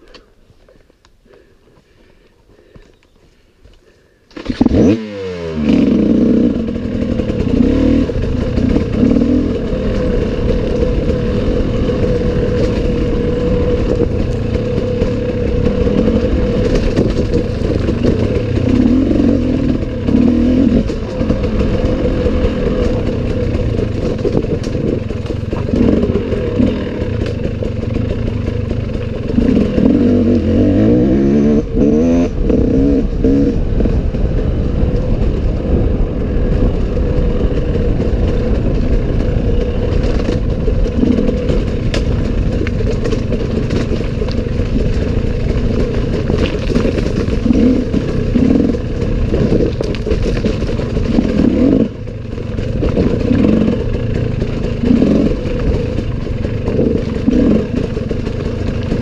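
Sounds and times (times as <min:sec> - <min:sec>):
dirt bike engine revving: 0:04.3 - 0:59.0.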